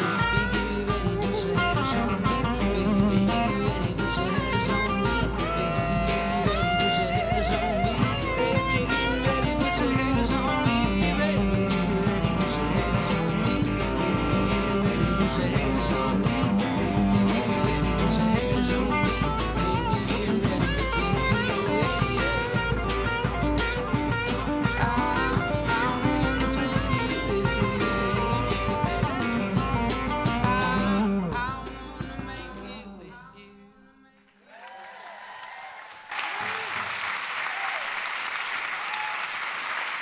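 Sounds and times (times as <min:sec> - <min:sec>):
live band with guitars and drums: 0:00.0 - 0:33.0.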